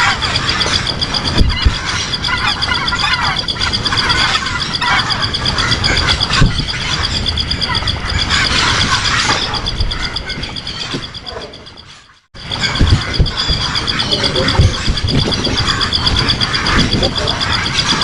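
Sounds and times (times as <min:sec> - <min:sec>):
birds chirping: 0:00.0 - 0:18.0
high pulsing trill: 0:00.0 - 0:18.0.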